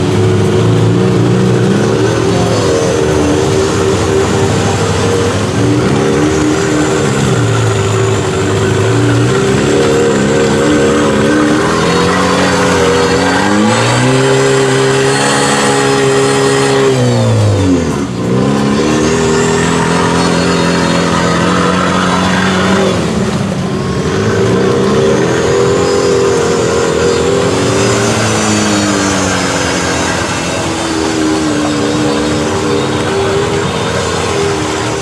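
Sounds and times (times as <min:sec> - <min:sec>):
engine revving hard: 0:00.0 - 0:35.0.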